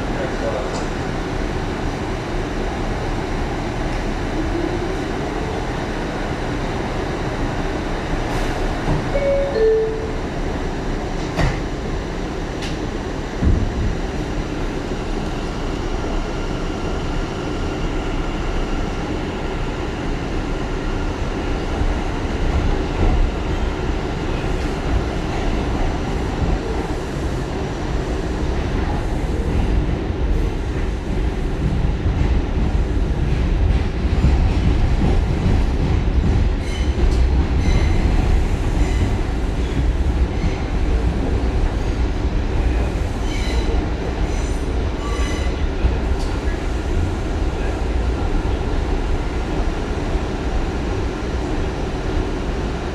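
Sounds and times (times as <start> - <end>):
subway car wheels rumbling on rails: 0.0 - 52.9.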